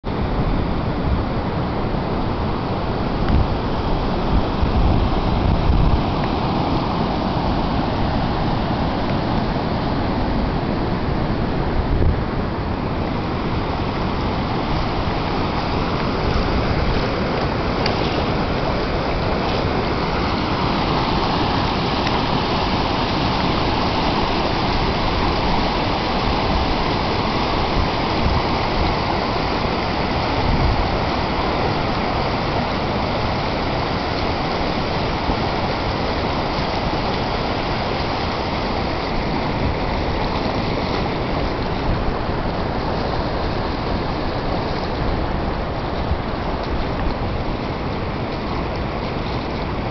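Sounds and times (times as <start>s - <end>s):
river rushing: 0.0s - 49.9s.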